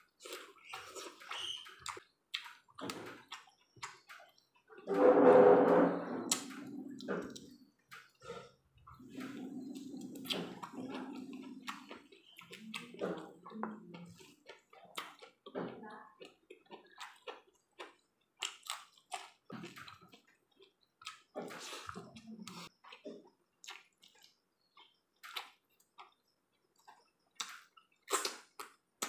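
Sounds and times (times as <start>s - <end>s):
chewing smacks: 0.2s - 4.8s, 6.3s - 15.6s, 16.2s - 28.8s.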